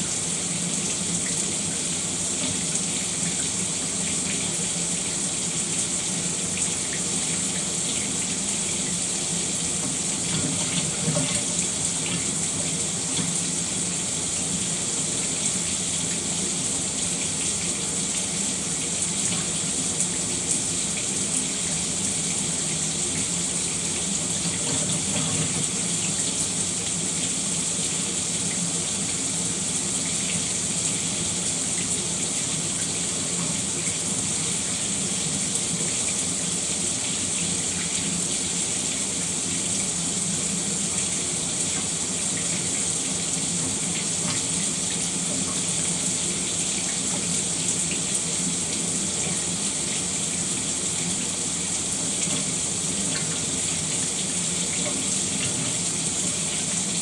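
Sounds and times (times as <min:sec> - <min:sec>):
shower water running: 0:00.0 - 0:57.0.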